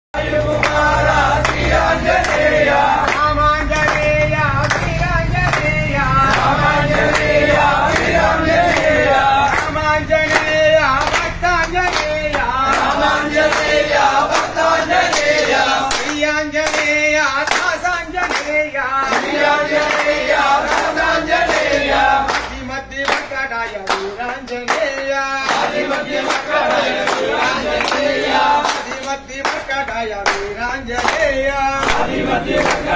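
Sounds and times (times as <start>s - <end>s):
men singing together: 0.2s - 32.9s
rhythmic hand claps: 0.2s - 32.9s.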